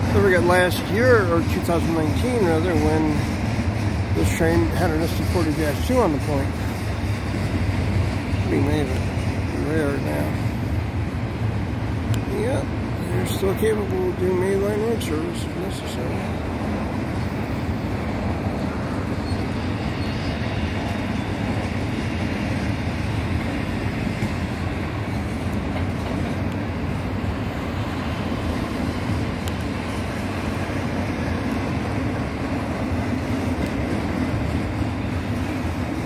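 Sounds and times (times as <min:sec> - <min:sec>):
train wheels running on rails: 0:00.0 - 0:36.0.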